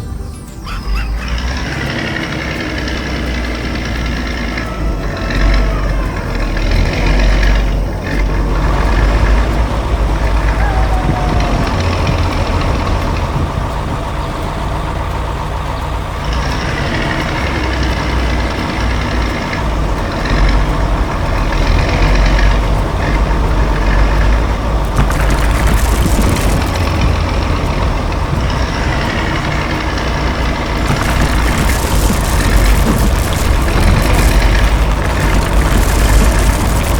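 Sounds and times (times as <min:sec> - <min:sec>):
truck engine rumbling: 0:00.0 - 0:36.9.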